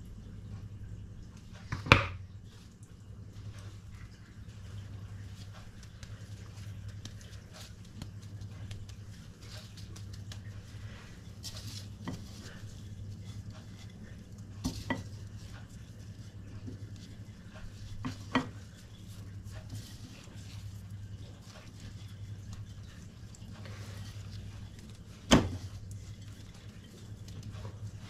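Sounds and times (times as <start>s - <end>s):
steady low hum: 0.0s - 28.0s
breadcrumbs rustling: 0.1s - 28.0s.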